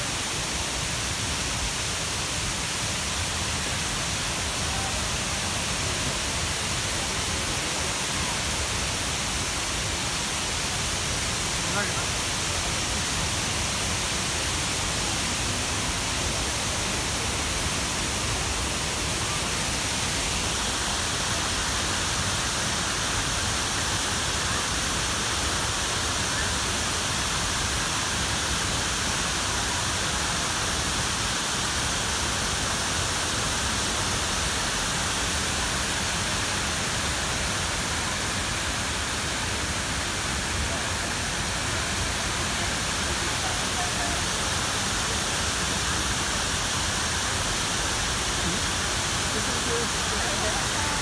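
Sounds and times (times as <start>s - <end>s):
waterfall pouring into pool: 0.0s - 51.0s.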